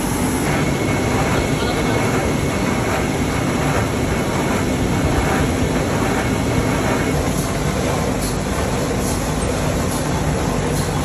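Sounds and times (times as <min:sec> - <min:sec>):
thin steady whine: 0:00.0 - 0:09.6
factory machinery rumble and hiss: 0:00.0 - 0:11.0.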